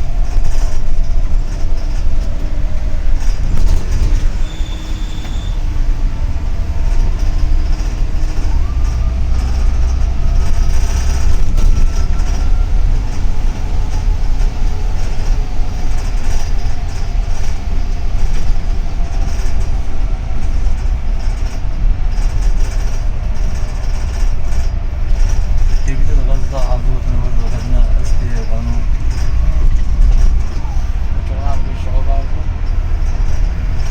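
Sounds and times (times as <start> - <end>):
bus engine and road rumble: 0.0 - 33.9
rattling: 0.0 - 33.9.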